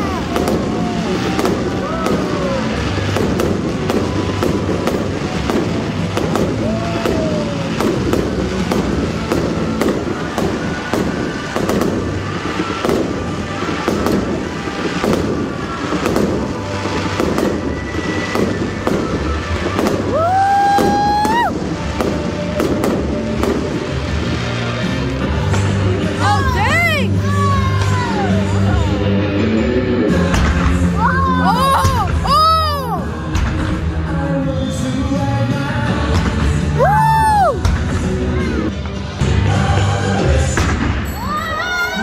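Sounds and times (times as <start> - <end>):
fireworks bursts and crackle: 0.0 - 42.0
music playing: 0.0 - 42.0.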